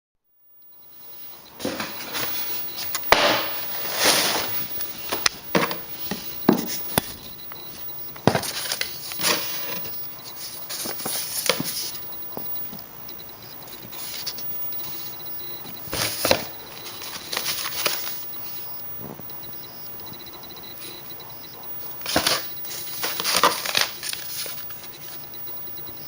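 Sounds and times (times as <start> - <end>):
paper rustling: 1.6 - 19.7, 21.9 - 25.4.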